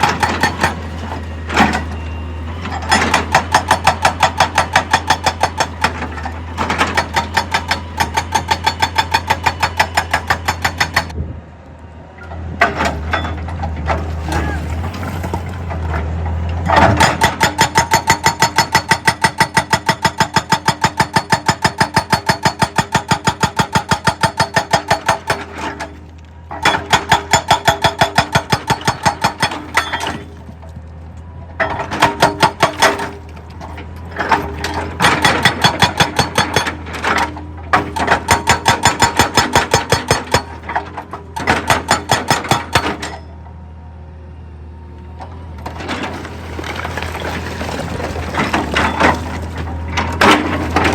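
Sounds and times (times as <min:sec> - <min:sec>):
hydraulic breaker pounding rock: 0:00.0 - 0:02.0, 0:02.6 - 0:11.2, 0:12.6 - 0:30.9, 0:31.6 - 0:43.3, 0:45.6 - 0:50.9.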